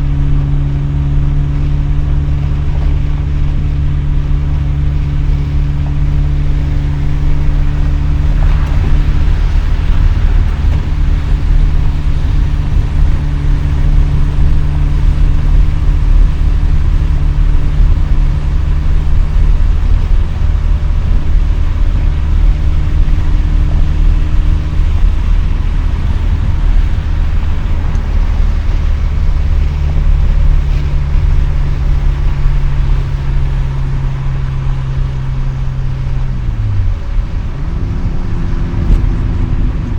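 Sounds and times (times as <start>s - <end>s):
rotary engine droning: 0.0s - 39.9s.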